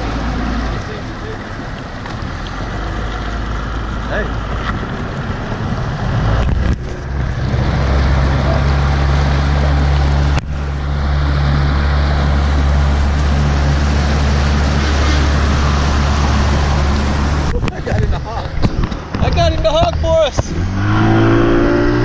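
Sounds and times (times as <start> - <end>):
outboard motor humming: 0.0 - 22.0
wind and water rushing: 0.0 - 22.0.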